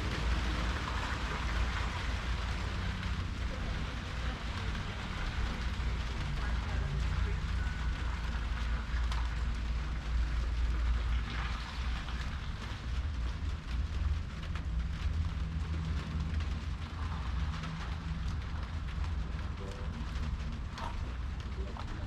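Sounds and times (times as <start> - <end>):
rain drop ticks: 0.0 - 22.0
rain falling: 0.0 - 22.0
steady low rumble: 0.0 - 22.0.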